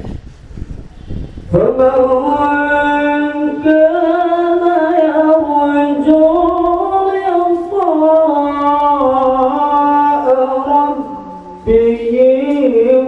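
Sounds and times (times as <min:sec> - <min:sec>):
man chanting melodically: 0:01.5 - 0:13.0.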